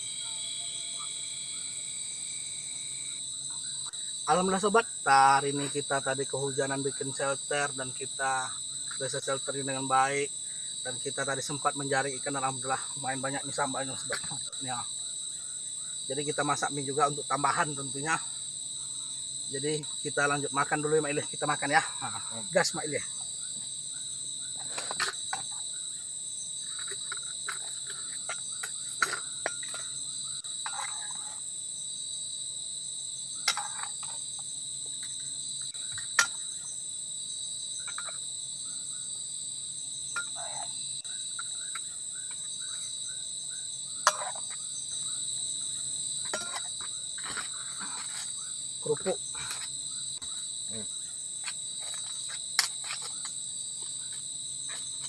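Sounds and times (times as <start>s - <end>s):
forest insects chorus: 0.0s - 55.0s.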